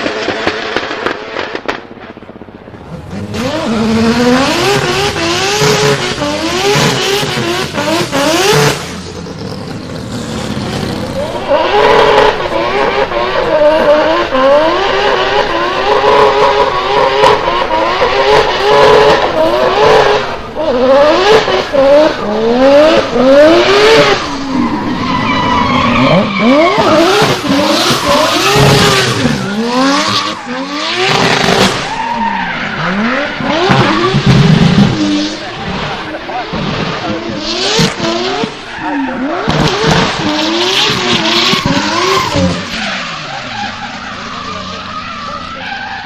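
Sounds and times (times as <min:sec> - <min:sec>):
car engine revving: 0:00.0 - 0:46.0
tyres screeching: 0:03.1 - 0:46.0.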